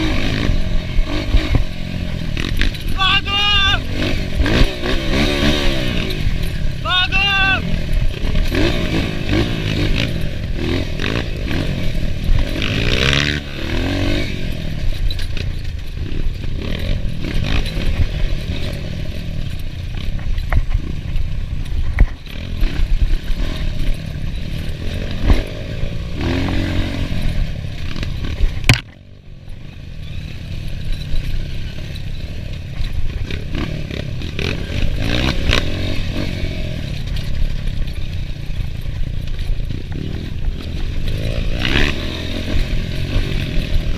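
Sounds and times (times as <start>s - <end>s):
bike clattering over rough ground: 0.0s - 43.9s
dirt bike engine revving: 0.0s - 43.9s.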